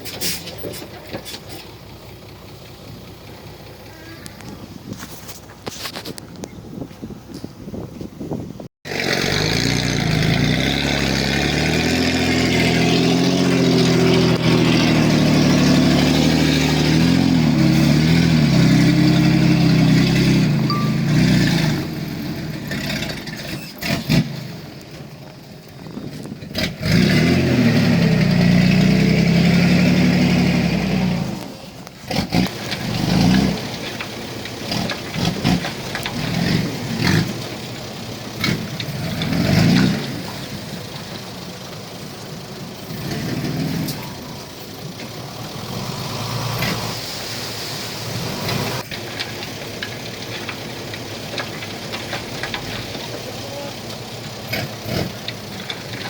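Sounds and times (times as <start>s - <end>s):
diesel engine revving: 8.8s - 56.0s.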